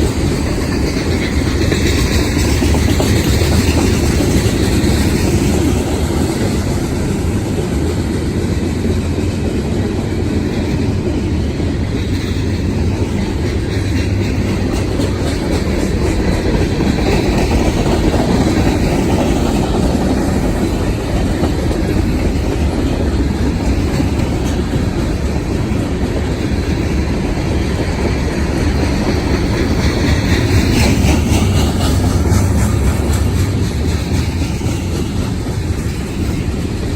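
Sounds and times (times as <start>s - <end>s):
train wheels rumbling on rail: 0.0s - 36.9s
wheels clacking over rail joints: 0.0s - 36.9s.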